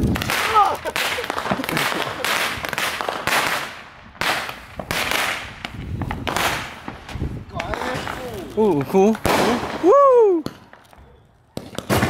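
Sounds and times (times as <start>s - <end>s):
firework shots popping and hissing: 0.0s - 12.0s.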